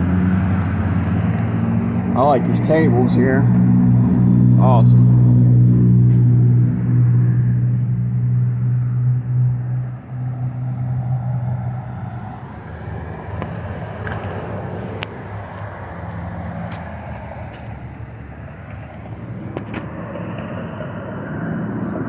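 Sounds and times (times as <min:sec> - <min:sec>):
road traffic noise: 0:00.0 - 0:22.0
vehicle engine humming: 0:00.0 - 0:22.0.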